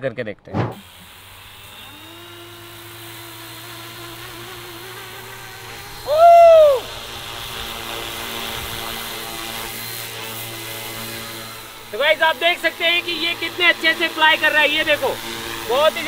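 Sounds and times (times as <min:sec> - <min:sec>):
rc helicopter motor and rotor hum: 0:00.7 - 0:16.0.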